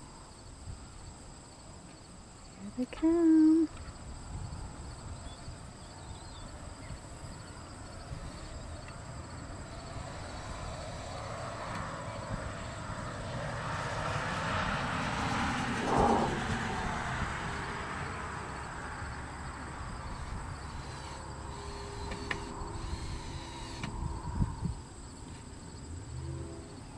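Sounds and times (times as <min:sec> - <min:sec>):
low outdoor rumble: 0:02.4 - 0:26.9
distant engine passing by: 0:04.5 - 0:26.9.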